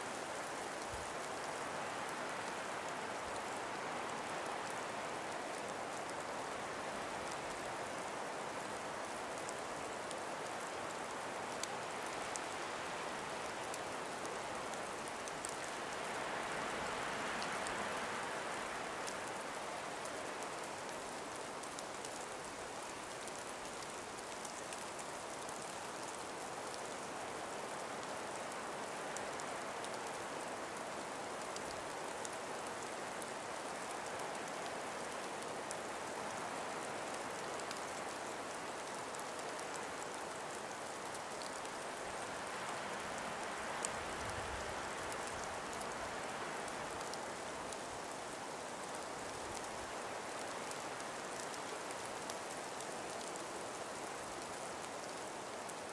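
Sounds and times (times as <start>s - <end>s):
breeze through trees: 0.0s - 55.9s
faint small ticks: 0.2s - 55.9s.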